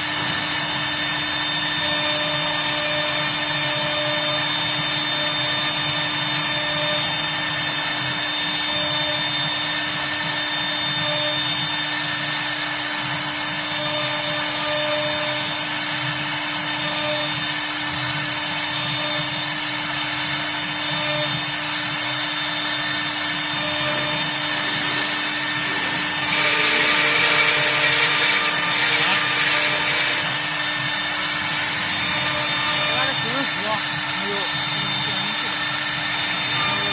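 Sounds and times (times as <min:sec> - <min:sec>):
router spindle whining: 0:00.0 - 0:36.9.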